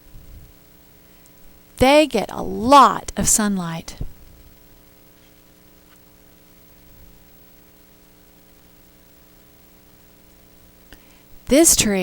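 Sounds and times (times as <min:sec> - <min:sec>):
low hiss: 0:00.0 - 0:12.0
steady hum of even tones: 0:00.0 - 0:12.0.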